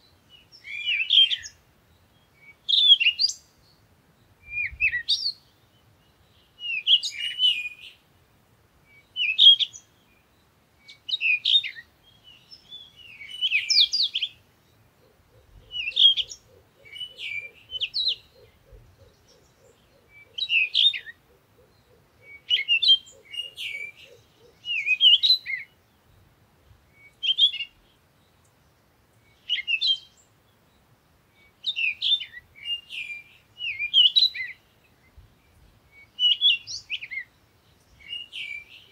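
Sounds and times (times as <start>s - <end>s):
small songbird chirping: 0.0s - 38.9s.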